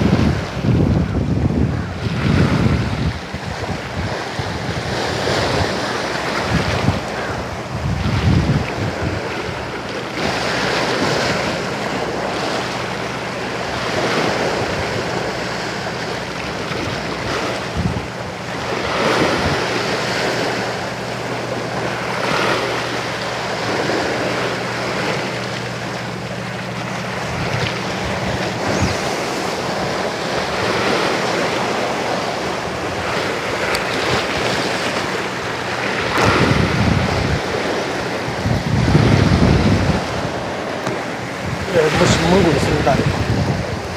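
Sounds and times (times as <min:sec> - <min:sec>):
sea waves washing in: 0:00.0 - 0:43.9
steady low hum: 0:00.0 - 0:43.9
wind buffeting microphone: 0:00.0 - 0:43.9.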